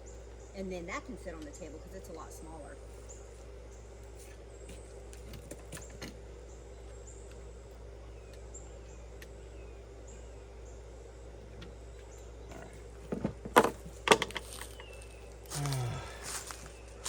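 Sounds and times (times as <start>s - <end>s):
small birds chirping: 0.0s - 13.1s, 13.9s - 17.0s
steady low hum: 0.0s - 17.0s.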